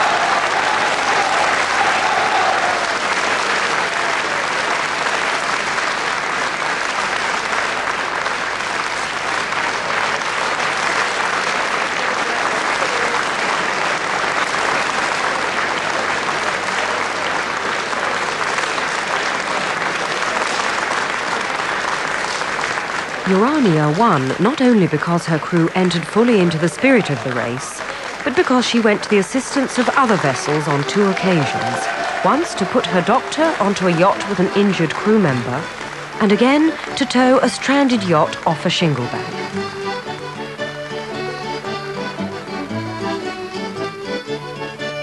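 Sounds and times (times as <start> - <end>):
audience applauding: 0.0 - 45.0.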